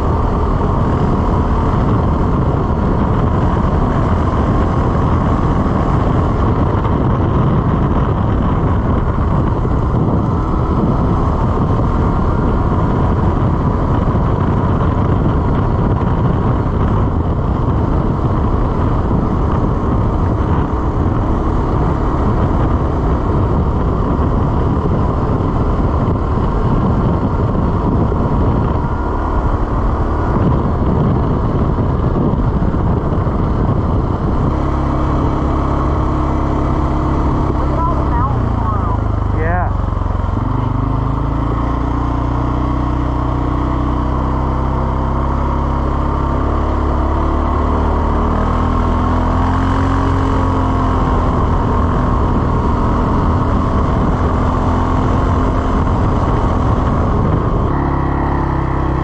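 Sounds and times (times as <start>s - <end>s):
atv engine running: 0.0s - 59.0s
wind noise on microphone: 0.0s - 59.0s.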